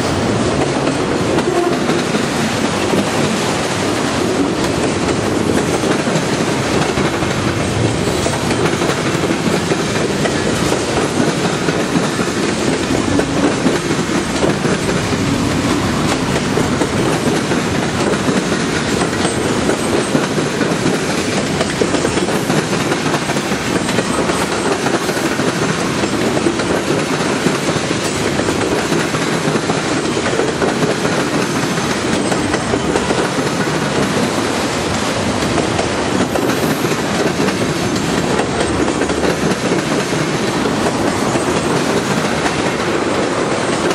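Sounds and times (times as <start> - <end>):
train wheels clicking over rail joints: 0.0 - 43.9.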